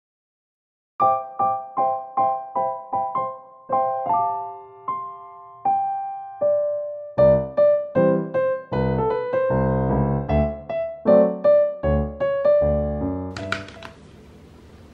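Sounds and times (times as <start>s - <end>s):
piano-like keyboard music: 1.0s - 14.2s.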